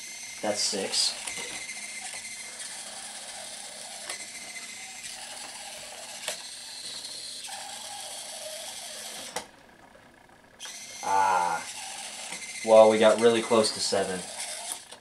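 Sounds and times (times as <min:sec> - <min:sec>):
small servo motors whirring: 0:00.0 - 0:09.5, 0:10.6 - 0:15.0.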